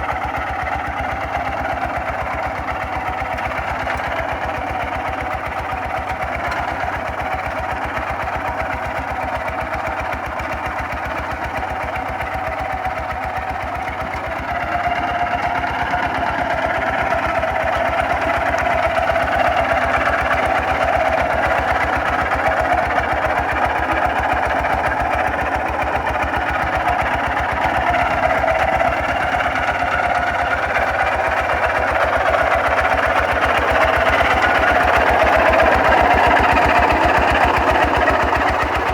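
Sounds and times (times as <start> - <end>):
diesel engine knocking steadily: 0.0 - 38.9.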